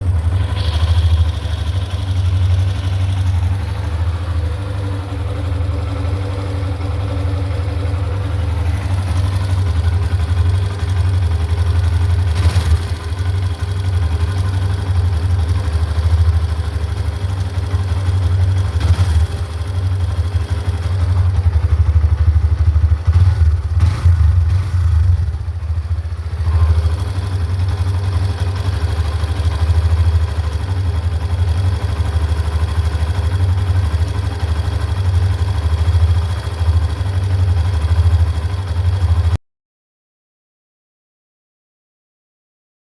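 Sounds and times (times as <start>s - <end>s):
motorcycle engine idling: 0.0s - 39.4s.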